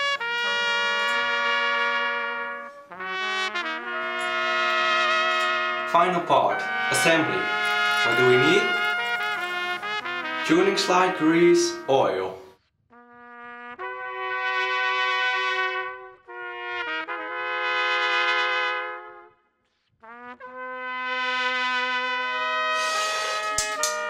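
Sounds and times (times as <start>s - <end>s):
trumpet playing held notes: 0.0s - 19.4s, 20.0s - 24.0s.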